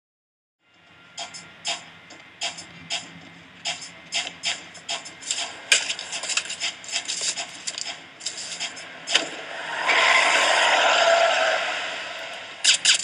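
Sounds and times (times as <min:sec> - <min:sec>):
minivan pulling up fast: 0:01.3 - 0:12.8.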